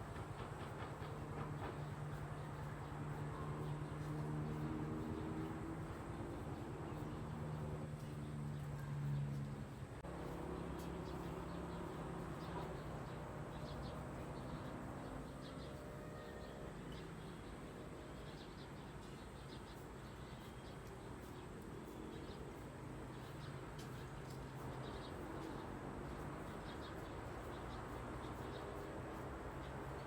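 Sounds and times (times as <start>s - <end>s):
birds chirping: 0.8s - 30.0s.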